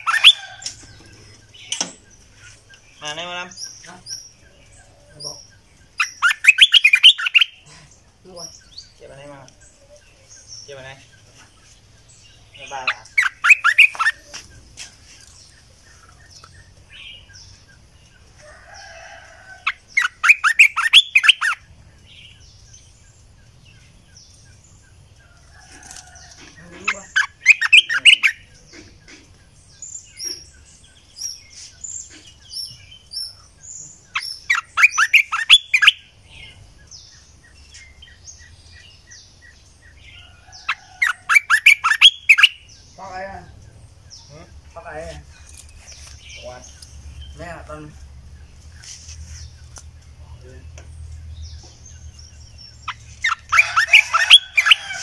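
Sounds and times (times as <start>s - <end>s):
bird song bursts: 0.0s - 25.4s, 26.0s - 55.0s
faint bird chirps: 0.0s - 55.0s.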